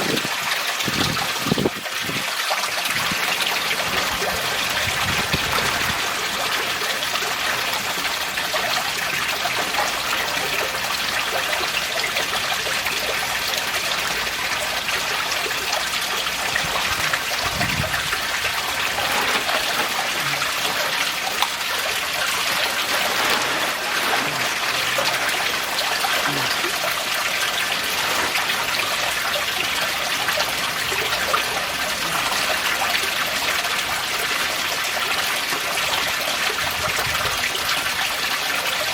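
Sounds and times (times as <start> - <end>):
water trickling into pond: 0.0 - 38.9.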